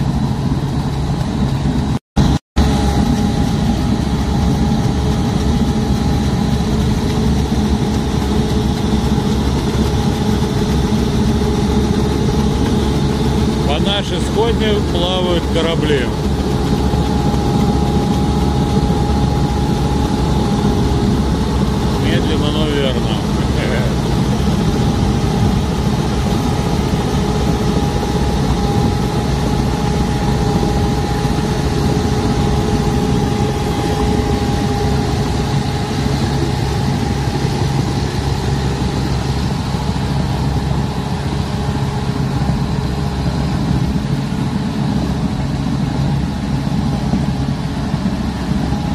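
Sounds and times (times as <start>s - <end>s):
engine running: 0.0s - 48.9s
steady whine: 0.0s - 48.9s
tracks churning through water: 2.8s - 48.9s.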